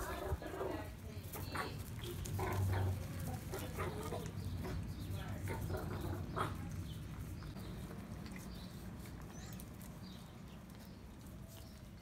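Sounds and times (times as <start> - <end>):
puppies crunching kibble: 0.0 - 12.0.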